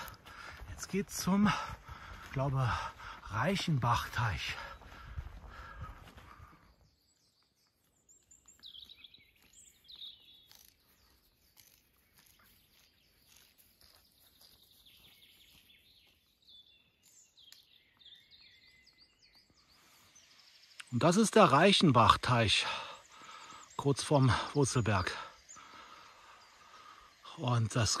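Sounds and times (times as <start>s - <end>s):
faint birdsong chirping: 0.0s - 28.0s.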